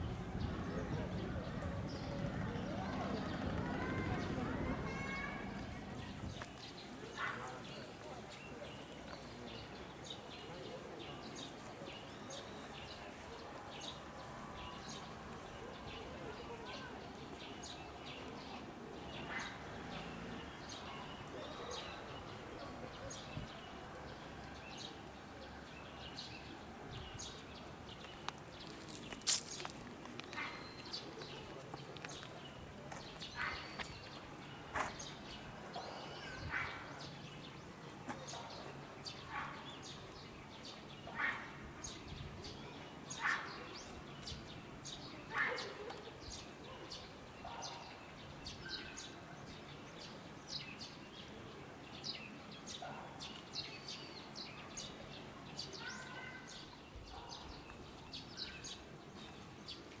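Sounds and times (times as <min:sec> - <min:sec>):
small birds chirping: 0:00.0 - 1:00.0.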